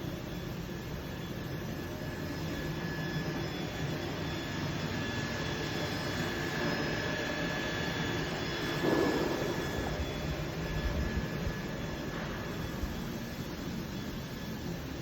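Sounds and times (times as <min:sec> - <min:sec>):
machining center hum and whine: 0:00.0 - 0:15.0.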